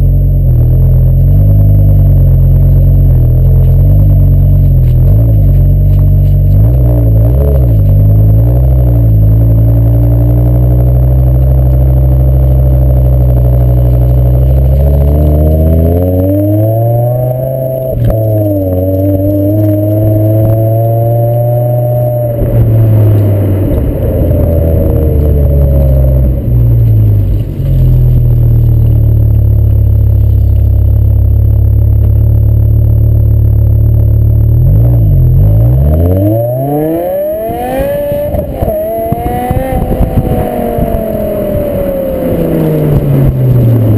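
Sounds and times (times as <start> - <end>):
loud car engine revving: 0.0 - 43.9.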